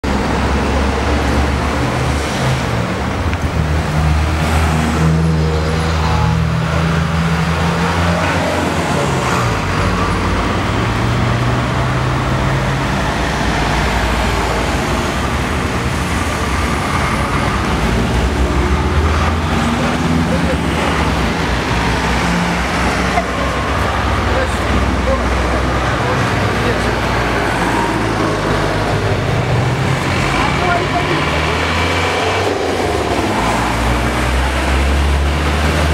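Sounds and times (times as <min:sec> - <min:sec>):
street traffic: 0:00.0 - 0:35.9
trolleybus humming: 0:00.0 - 0:35.9.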